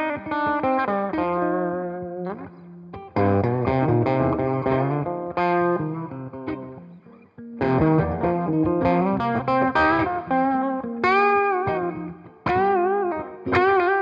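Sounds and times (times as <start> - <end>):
electric guitar playing: 0.0 - 14.0.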